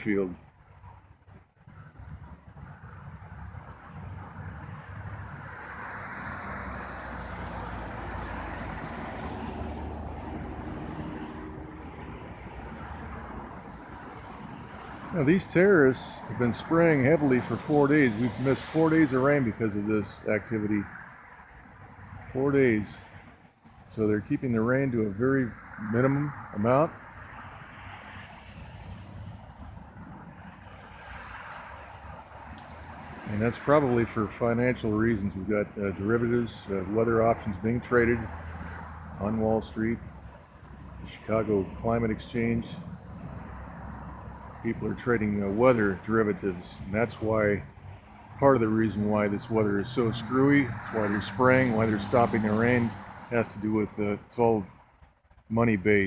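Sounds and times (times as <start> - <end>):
distant engine rumbling: 0.0 - 56.0.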